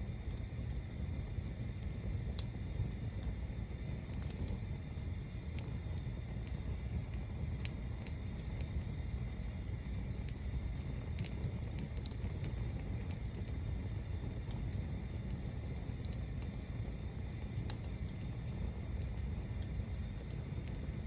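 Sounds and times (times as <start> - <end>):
bonfire flames rushing: 0.0 - 21.0
wood crackling and popping: 0.0 - 21.0.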